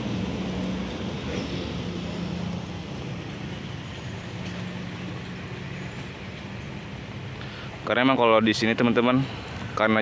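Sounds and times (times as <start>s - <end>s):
diesel locomotive engine hum: 0.0s - 10.0s
outdoor background noise: 0.0s - 10.0s.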